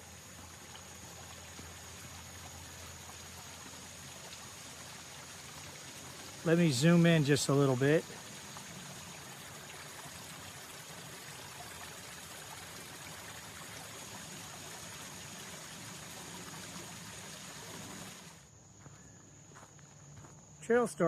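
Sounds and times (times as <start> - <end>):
stream water trickling: 0.0 - 18.5.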